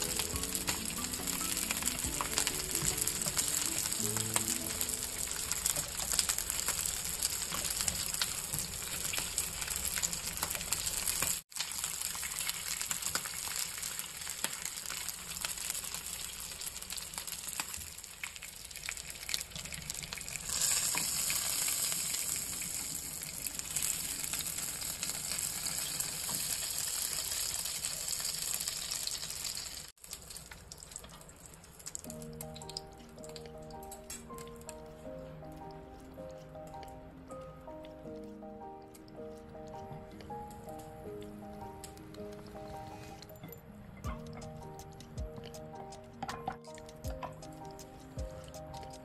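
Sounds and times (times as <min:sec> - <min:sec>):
peppers frying in hot oil: 0:00.0 - 0:42.7, 0:44.1 - 0:49.0.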